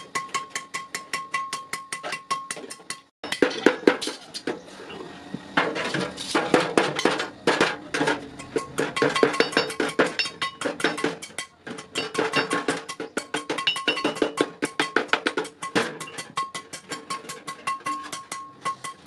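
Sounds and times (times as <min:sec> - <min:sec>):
utensils clinking on cooking pot: 0:00.0 - 0:04.6, 0:05.6 - 0:19.0.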